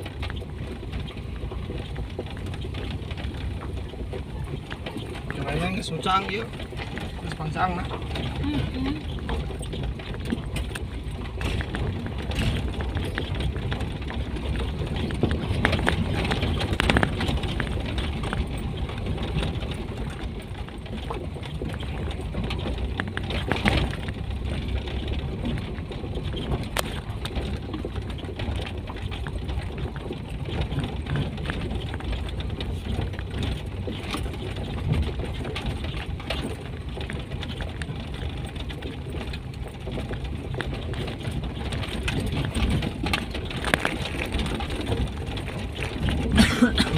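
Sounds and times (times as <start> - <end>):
car engine and tyre noise: 0.0 - 46.9
car knocks and rattles: 0.0 - 46.9.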